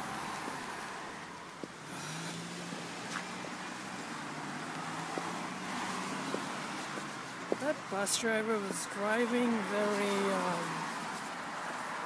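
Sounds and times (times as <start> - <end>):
road traffic rushing: 0.0 - 12.0
vehicle engine hum: 0.0 - 12.0.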